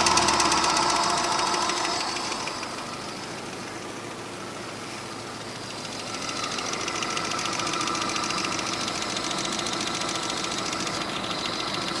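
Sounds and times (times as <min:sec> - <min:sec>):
petrol engine running: 0:00.0 - 0:12.0.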